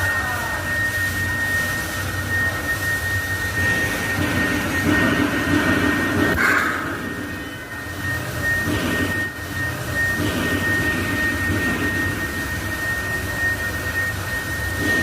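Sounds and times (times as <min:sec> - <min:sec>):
high whine: 0:00.0 - 0:15.0
low hum: 0:00.0 - 0:15.0.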